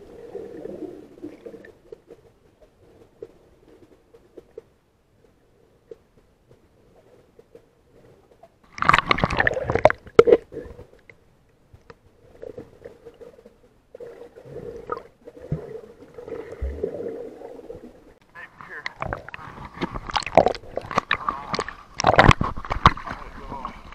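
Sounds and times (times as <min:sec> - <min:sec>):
soft underwater gurgling: 0:00.0 - 0:23.9
underwater splashing and bubbling: 0:00.0 - 0:23.9.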